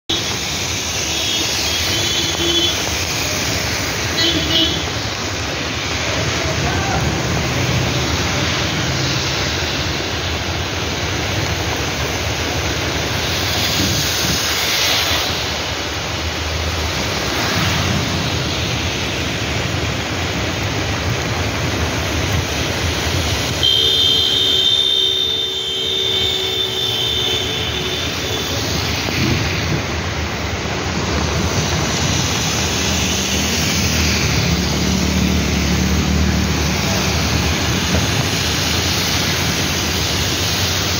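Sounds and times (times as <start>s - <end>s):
heavy rain: 0.1s - 40.9s
tyres hissing on wet road: 0.1s - 40.9s.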